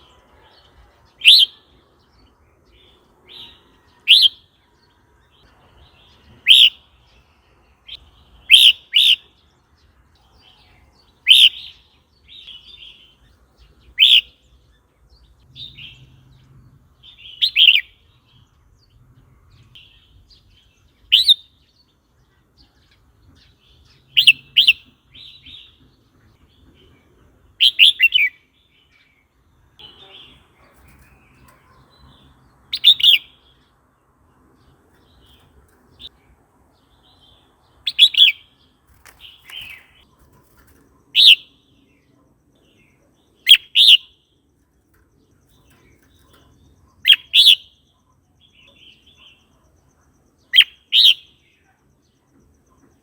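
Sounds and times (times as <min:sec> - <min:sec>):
bird chirping: 0:00.0 - 0:53.0.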